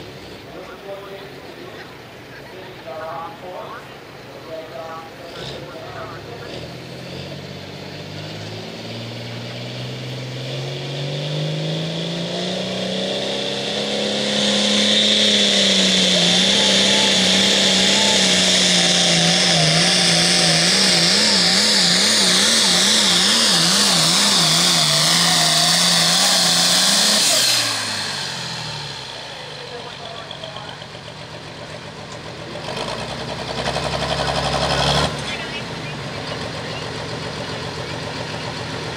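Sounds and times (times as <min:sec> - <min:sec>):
tractor engine at full throttle: 0:00.0 - 0:38.9.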